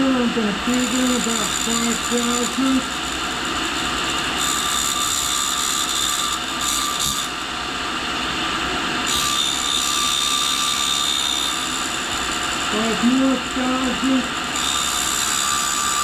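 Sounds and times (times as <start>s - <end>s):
grinder whining and grinding: 0.0s - 16.0s.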